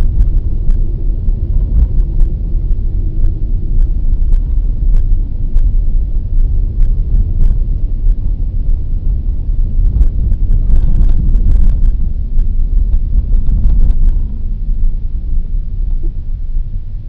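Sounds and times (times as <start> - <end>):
car driving over snow: 0.0 - 17.0.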